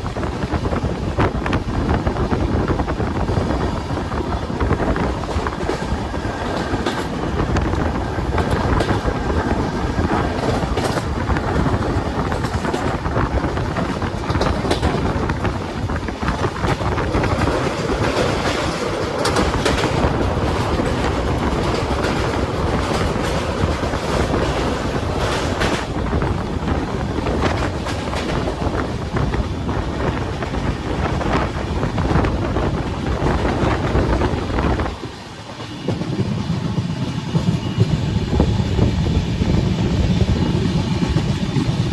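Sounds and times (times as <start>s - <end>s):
train rumbling on rails: 0.0s - 41.9s
wheels clattering over rail joints: 3.2s - 38.0s.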